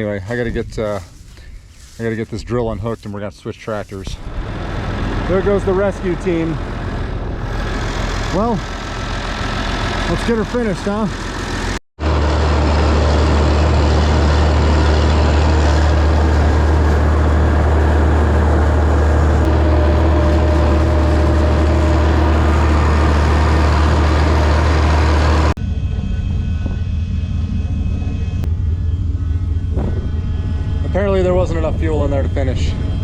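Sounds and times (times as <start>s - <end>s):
tractor engine droning: 3.6s - 33.0s.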